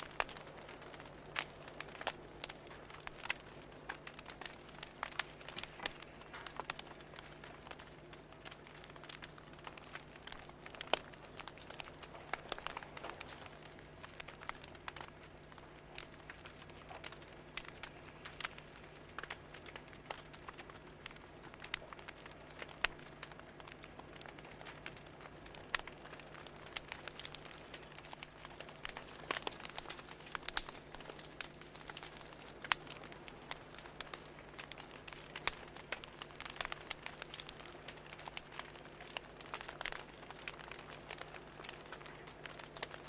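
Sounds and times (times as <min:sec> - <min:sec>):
steady low hum: 0:00.0 - 0:42.9
fire crackling: 0:00.0 - 0:43.0.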